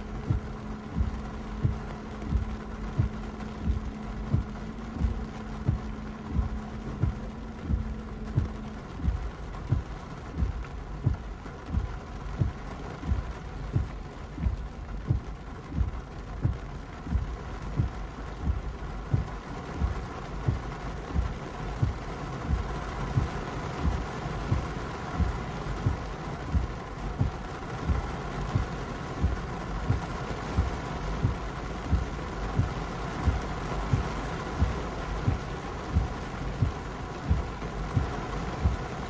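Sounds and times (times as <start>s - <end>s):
heavy rain on car: 0.0s - 39.0s
windshield wipers thumping: 0.0s - 39.0s.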